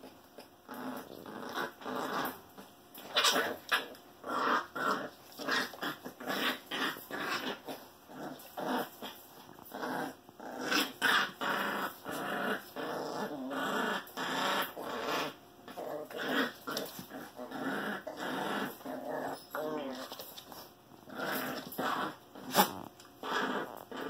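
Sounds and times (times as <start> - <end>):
dogs growling in play: 0.0 - 24.0.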